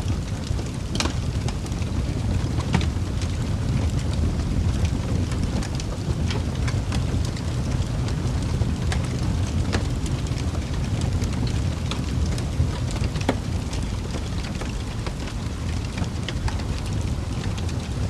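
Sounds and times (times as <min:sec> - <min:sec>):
low rumble of fire: 0:00.0 - 0:18.0
wood fire crackling and popping: 0:00.0 - 0:18.0.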